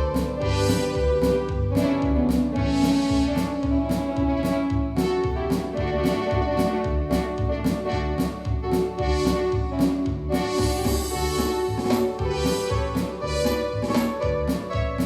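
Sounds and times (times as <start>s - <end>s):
bass line: 0.0s - 15.0s
steady drum beat: 0.0s - 15.0s.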